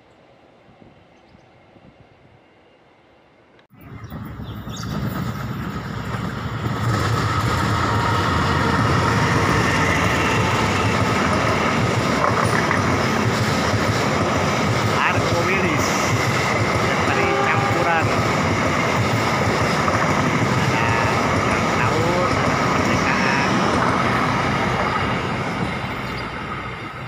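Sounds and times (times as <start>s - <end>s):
diesel locomotive rumble: 3.7s - 27.0s.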